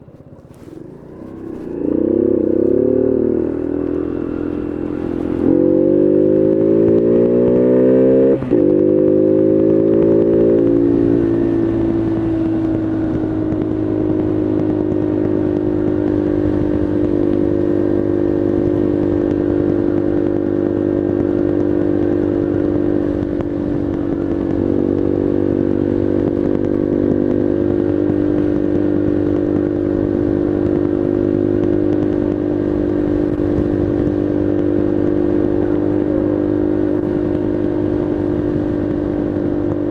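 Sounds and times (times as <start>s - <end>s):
motorbike engine accelerating: 0.0s - 39.9s.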